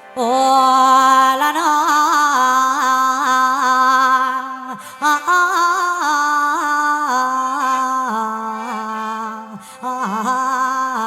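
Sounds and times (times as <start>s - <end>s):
person singing long wavering notes: 0.0s - 11.0s.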